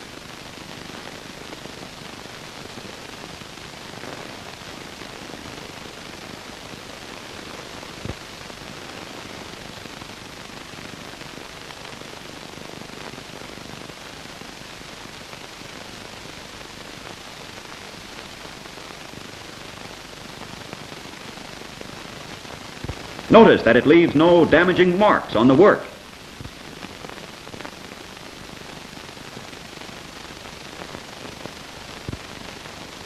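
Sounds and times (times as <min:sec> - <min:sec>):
faint crackle: 0:00.0 - 0:23.3, 0:25.9 - 0:33.0
recording hiss: 0:00.0 - 0:33.0.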